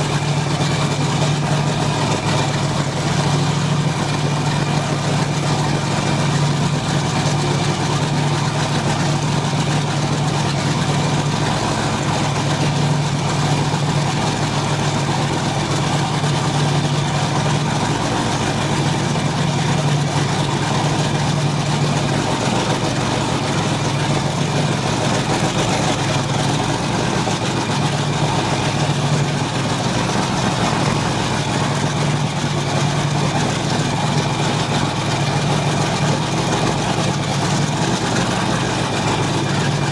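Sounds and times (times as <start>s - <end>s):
boat engines droning: 0.0s - 39.9s.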